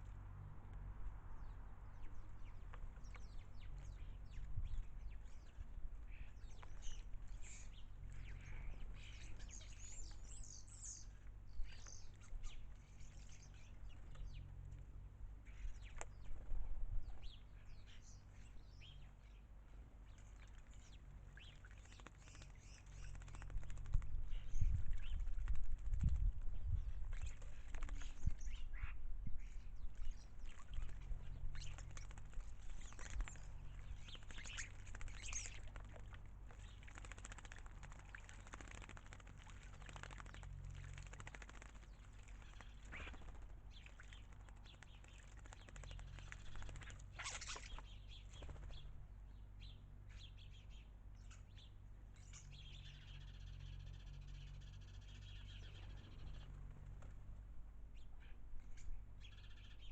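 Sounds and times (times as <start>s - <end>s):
birds splashing and fluttering: 0.0s - 49.2s, 52.0s - 59.9s
steady low hum: 0.0s - 59.9s
bird chirps: 2.0s - 14.7s, 20.1s - 38.8s, 39.8s - 57.1s, 57.9s - 59.9s.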